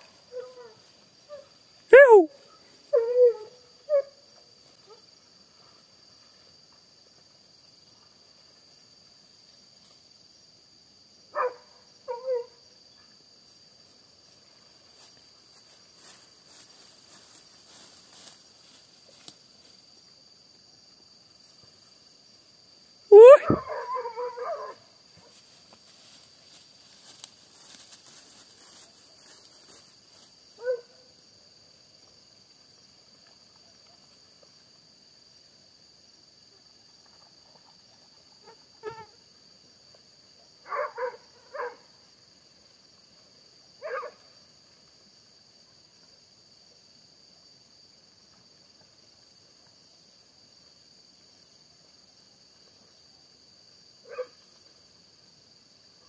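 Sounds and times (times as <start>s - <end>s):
night insects chirring: 0.0s - 56.0s.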